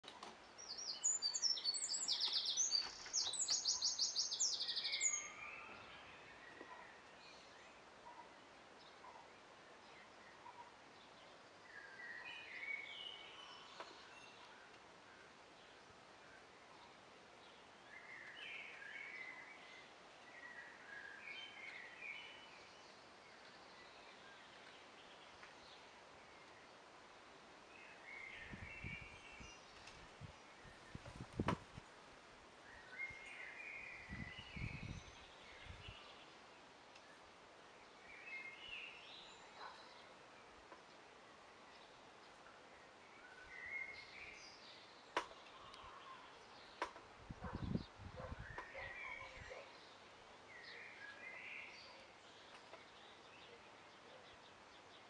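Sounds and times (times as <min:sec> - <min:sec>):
low steady background hiss: 0:00.0 - 0:55.0
songbird chirping and trilling: 0:00.0 - 0:55.0.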